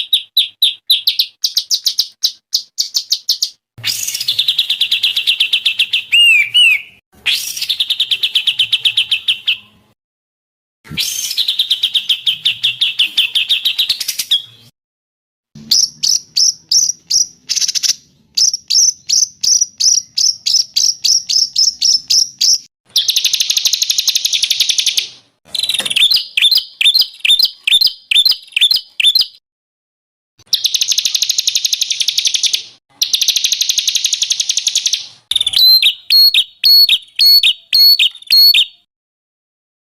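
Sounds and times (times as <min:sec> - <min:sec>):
bird chirps: 0:00.0 - 0:09.9, 0:11.0 - 0:14.7, 0:15.6 - 0:29.4, 0:30.4 - 0:38.9.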